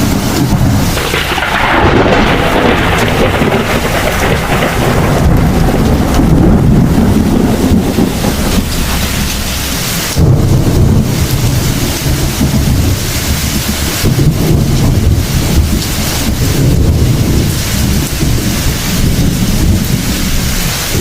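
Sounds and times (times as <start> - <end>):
heavy rain: 0.0 - 21.0
rolling thunder: 0.0 - 21.0.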